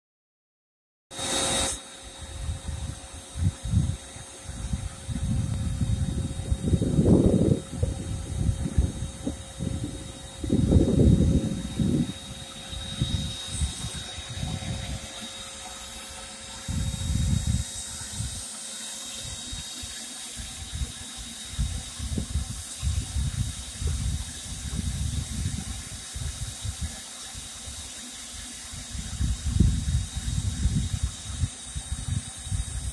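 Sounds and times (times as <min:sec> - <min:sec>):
wind buffeting microphone: 0:02.2 - 0:18.4, 0:20.4 - 0:27.0, 0:28.7 - 0:32.9.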